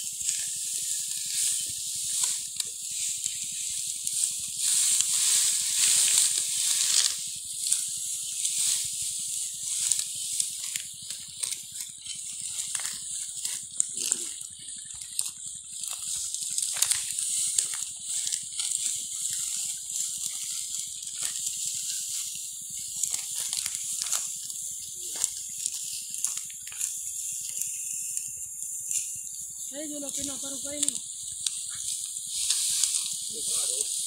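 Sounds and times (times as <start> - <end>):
dry wheat stalks rustling: 0.0 - 34.0.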